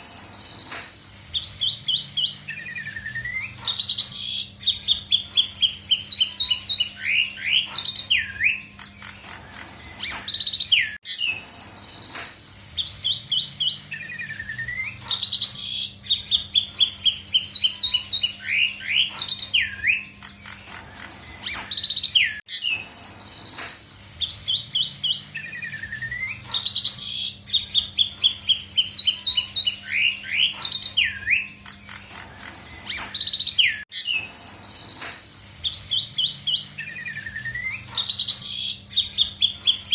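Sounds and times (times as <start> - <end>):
starling singing varied song: 0.0 - 22.4, 24.2 - 39.9.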